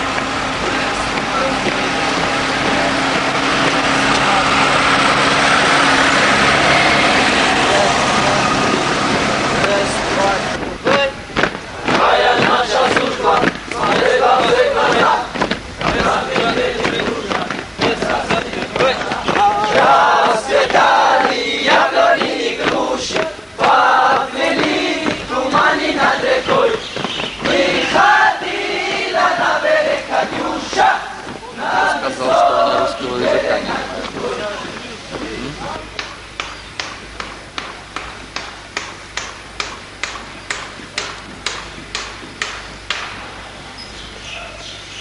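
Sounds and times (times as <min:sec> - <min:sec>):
soldiers singing marching song: 0:00.0 - 0:43.4.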